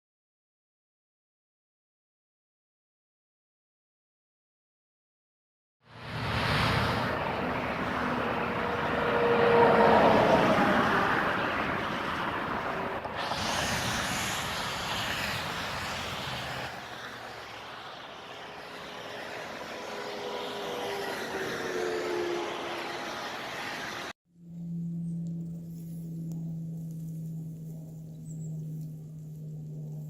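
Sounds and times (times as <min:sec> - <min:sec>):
vehicle driving rush: 0:05.9 - 0:30.0.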